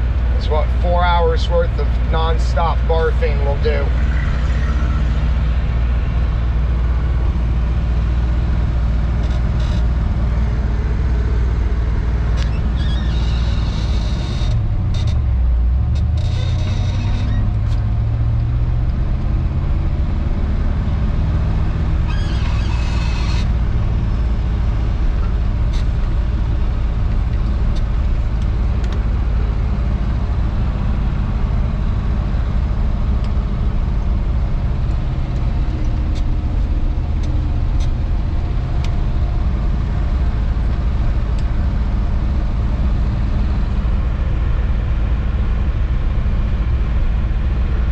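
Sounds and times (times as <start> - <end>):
pickup truck engine: 0.0 - 47.9.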